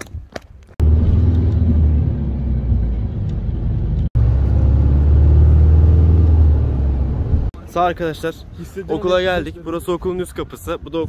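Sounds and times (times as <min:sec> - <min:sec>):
bus engine and road rumble: 0:00.7 - 0:10.0.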